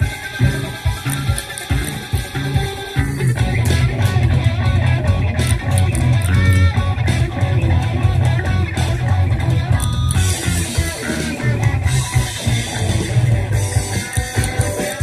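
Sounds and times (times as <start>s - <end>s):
heavy bass line: 0.0s - 15.0s
rock music with electric guitar: 0.0s - 15.0s.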